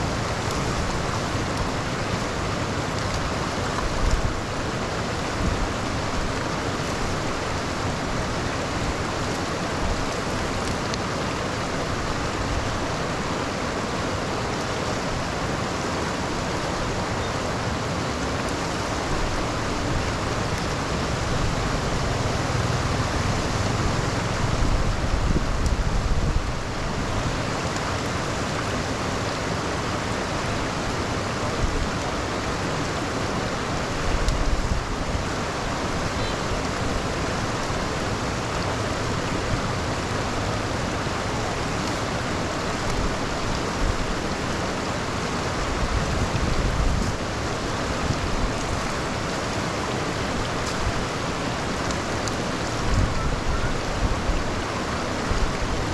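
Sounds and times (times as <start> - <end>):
rain: 0.0 - 55.9.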